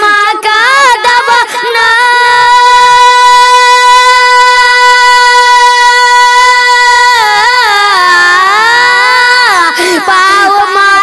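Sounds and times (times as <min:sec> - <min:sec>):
boy singing: 0:00.0 - 0:11.0.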